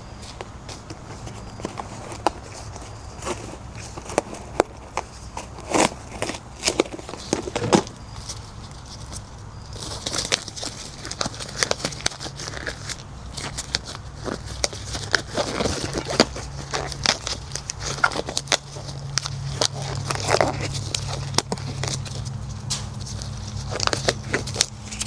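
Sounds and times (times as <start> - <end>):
handling clicks and crackling: 0.2 - 25.0.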